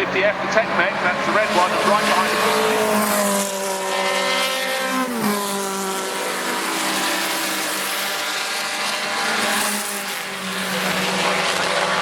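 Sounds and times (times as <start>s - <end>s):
racing car engines at high revs: 0.0s - 12.0s.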